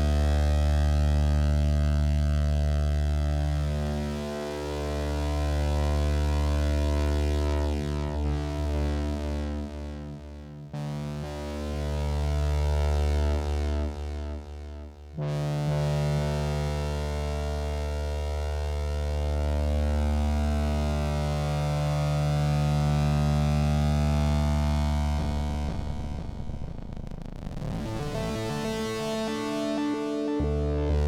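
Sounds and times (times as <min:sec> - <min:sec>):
low synthesizer drone: 0:00.0 - 0:31.0.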